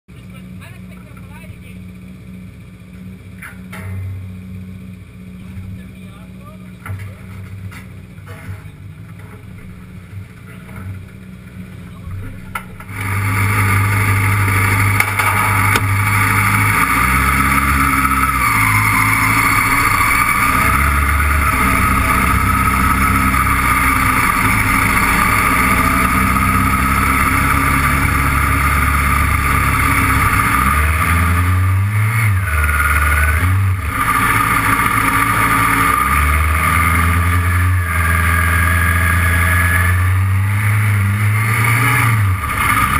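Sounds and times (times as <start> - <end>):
car engine revving: 0.1 - 42.9.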